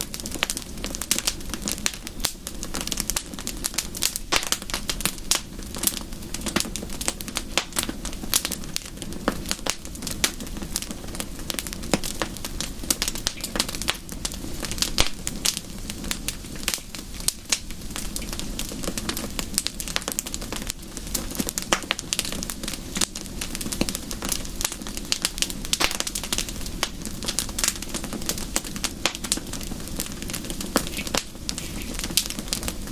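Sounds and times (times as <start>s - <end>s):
low steady fire rumble: 0.0s - 32.9s
wood fire crackling and popping: 0.0s - 32.9s.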